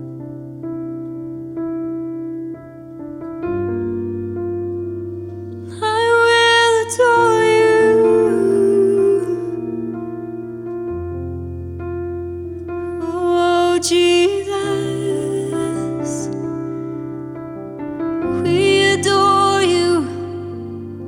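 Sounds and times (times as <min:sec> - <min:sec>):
electric piano chords: 0:00.0 - 0:21.0.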